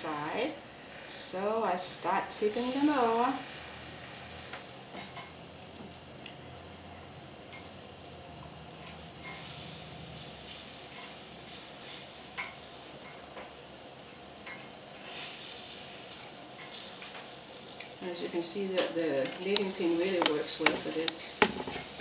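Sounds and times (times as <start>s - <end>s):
batter sizzling in a pan: 0.0s - 22.0s.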